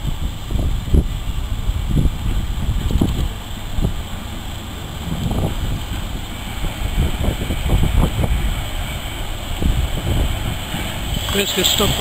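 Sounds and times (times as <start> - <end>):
steam locomotive running slowly: 0.0 - 12.0.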